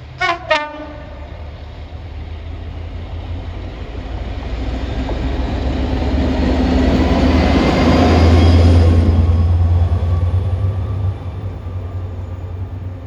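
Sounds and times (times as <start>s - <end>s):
train rumble and wheel noise: 0.0s - 13.0s.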